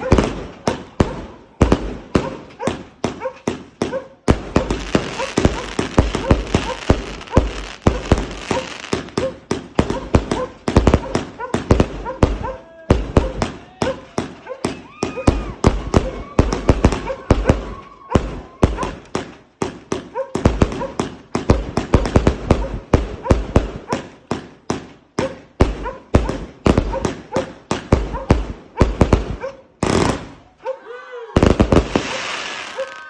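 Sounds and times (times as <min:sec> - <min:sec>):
fireworks banging: 0:00.0 - 0:30.5, 0:31.4 - 0:33.0.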